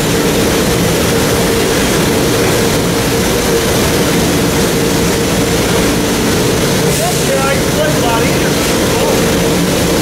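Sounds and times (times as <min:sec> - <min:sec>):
factory machinery drone: 0:00.0 - 0:10.0.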